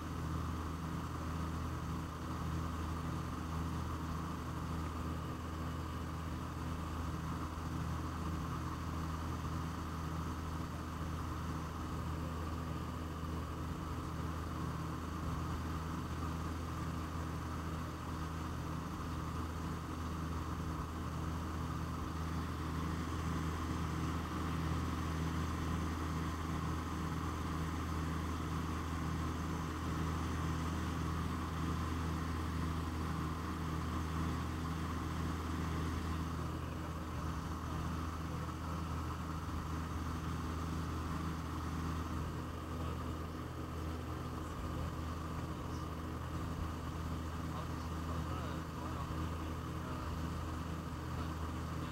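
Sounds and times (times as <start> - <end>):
propeller plane cabin drone: 0.0 - 51.9.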